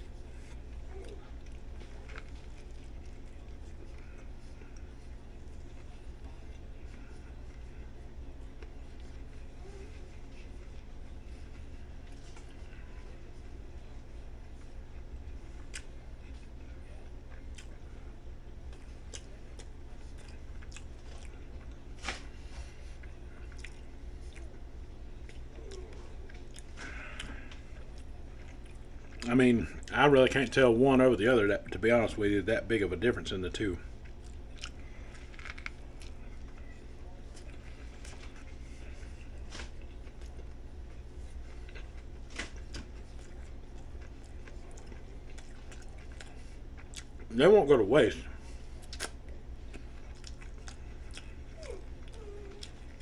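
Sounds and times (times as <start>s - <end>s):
person chewing bread: 0.0s - 30.7s, 32.7s - 53.0s
steady low hum: 0.0s - 53.0s.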